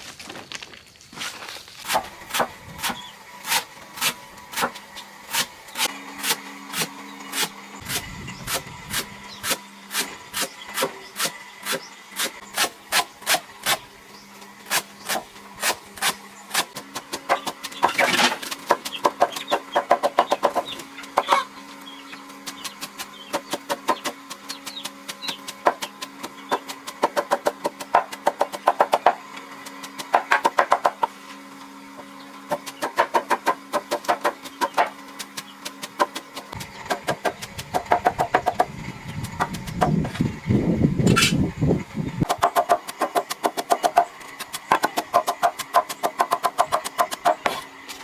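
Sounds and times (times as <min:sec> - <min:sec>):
knife chopping on wood: 0:01.8 - 0:13.8, 0:14.7 - 0:21.4, 0:22.4 - 0:31.1, 0:32.5 - 0:38.7, 0:42.2 - 0:47.7.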